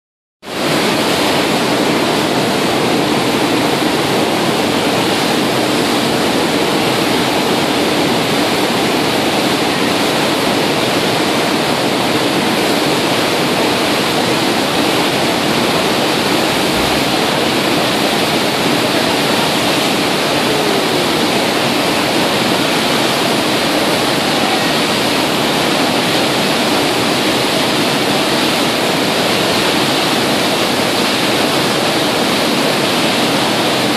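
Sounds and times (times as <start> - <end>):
loud rush of water: 0.5 - 33.9.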